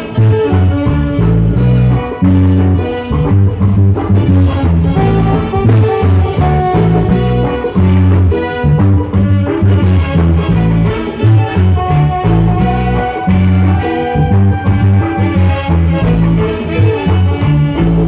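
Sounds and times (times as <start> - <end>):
horns and flute holding notes: 0.0 - 18.0
reggae band playing: 0.0 - 18.0
repeating bass guitar line: 0.0 - 18.0.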